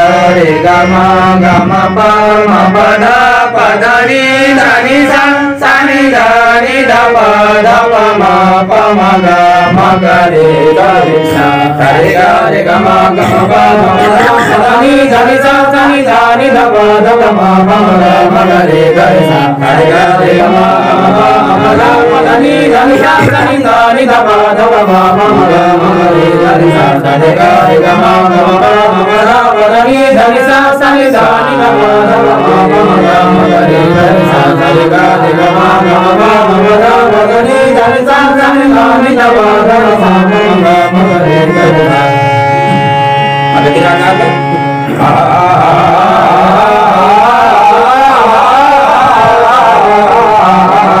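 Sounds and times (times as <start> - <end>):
harmonium: 0.0 - 51.0
man singing: 0.0 - 51.0.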